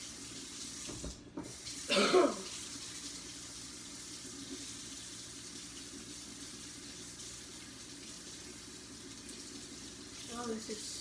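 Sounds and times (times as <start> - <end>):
water tap running: 0.0 - 11.0.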